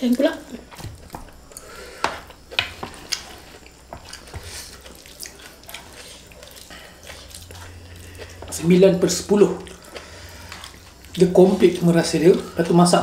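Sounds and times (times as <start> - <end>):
wet chewing and smacking: 0.1 - 12.8.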